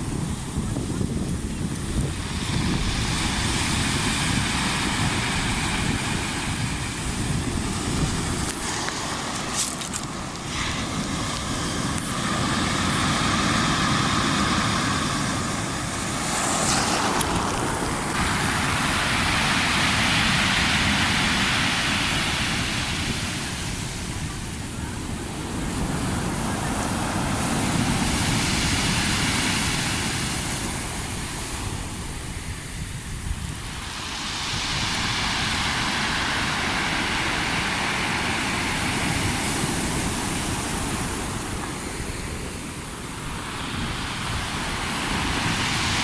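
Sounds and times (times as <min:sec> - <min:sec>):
waves breaking: 0:00.0 - 0:32.4, 0:33.2 - 0:46.0
wind buffeting microphone: 0:00.0 - 0:46.0.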